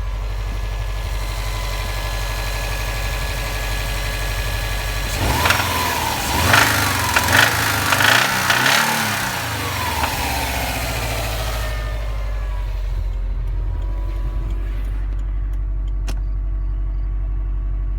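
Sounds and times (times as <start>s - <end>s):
car engine revving and idling: 0.0s - 17.9s.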